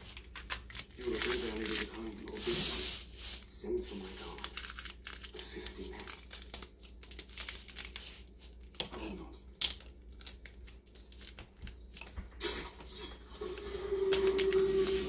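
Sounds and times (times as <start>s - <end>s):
vinyl peeling and crinkling: 0.0s - 15.0s.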